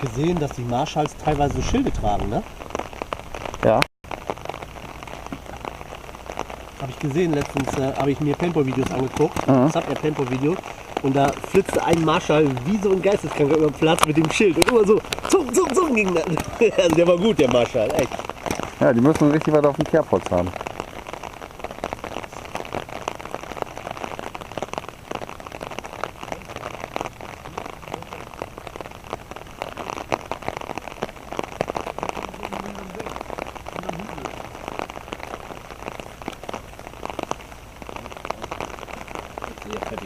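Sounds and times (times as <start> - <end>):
rain drops ticking: 0.0 - 40.0.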